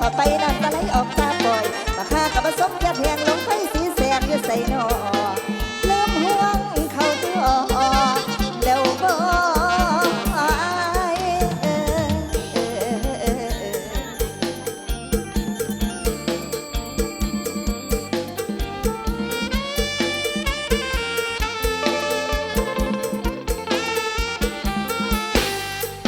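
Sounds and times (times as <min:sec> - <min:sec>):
wavering lead melody: 0:00.0 - 0:26.0.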